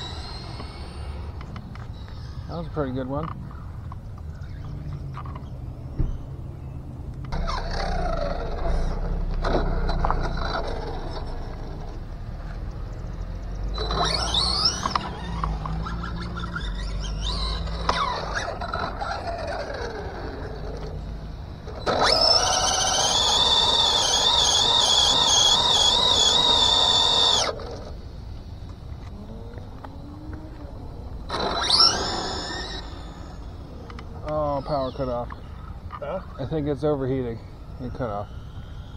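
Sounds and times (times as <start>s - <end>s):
rc car motor whining: 0.0s - 3.6s, 7.3s - 12.6s, 13.5s - 38.9s.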